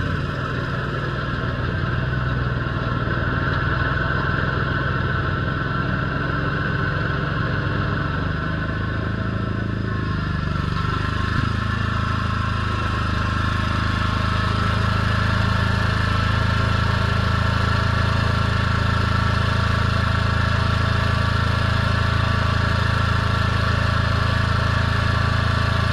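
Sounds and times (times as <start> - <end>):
mower engine running: 0.0 - 25.9.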